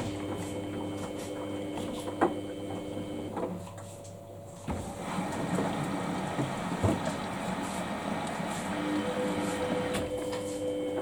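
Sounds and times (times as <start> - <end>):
washing machine motor hum: 0.0 - 11.0.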